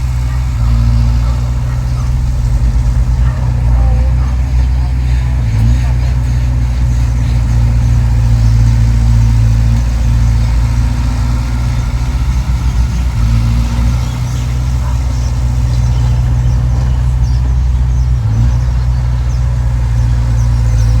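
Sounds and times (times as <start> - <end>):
diesel machinery engine droning: 0.0 - 21.0.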